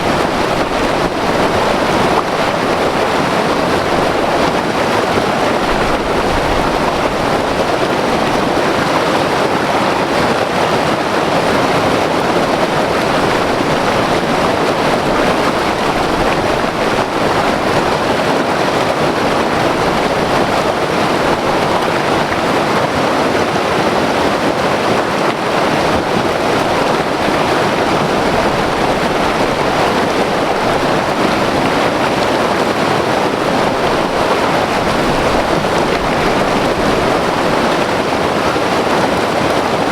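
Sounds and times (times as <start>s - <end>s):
river roaring over rocks: 0.0s - 39.9s.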